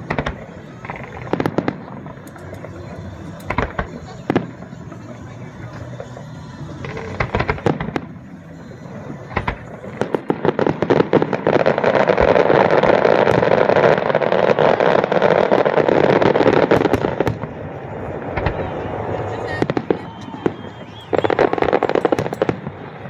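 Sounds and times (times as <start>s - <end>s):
aerial fireworks bangs: 0.0s - 23.0s.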